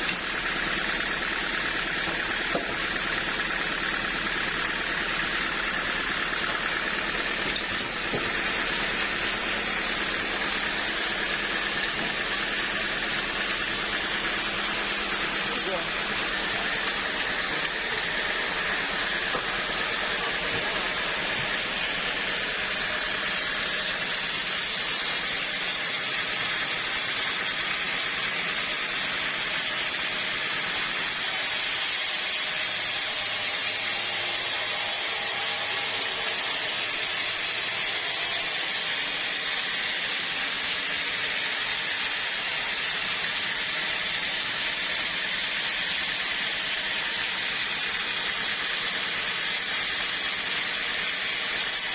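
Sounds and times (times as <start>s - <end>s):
sawmill saw hissing: 0.0s - 51.9s.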